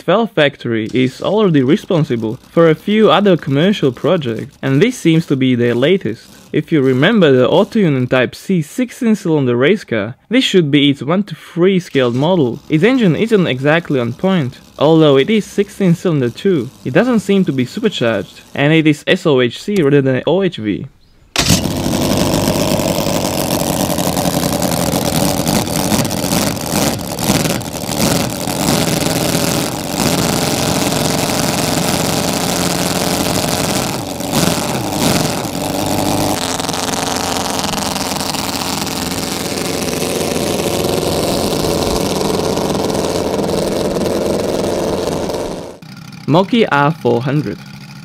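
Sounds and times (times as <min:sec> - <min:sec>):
model engine revving: 0:00.0 - 0:08.3, 0:10.8 - 0:20.0, 0:21.4 - 0:48.0.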